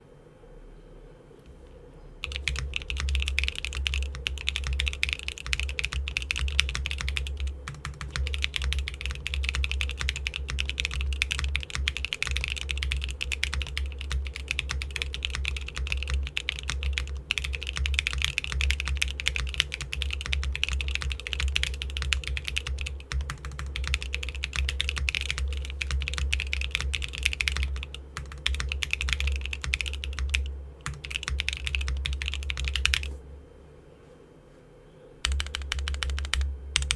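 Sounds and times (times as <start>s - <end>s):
fast typing on mechanical keyboard: 2.2s - 33.1s, 35.2s - 36.9s.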